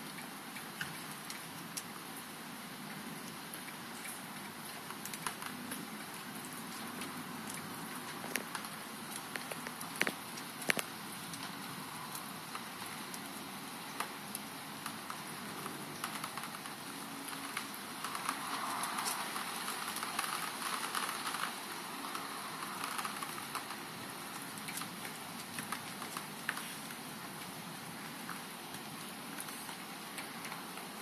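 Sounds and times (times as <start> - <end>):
raindrops ticking: 0.0 - 31.0
steady rain hiss: 0.0 - 31.0.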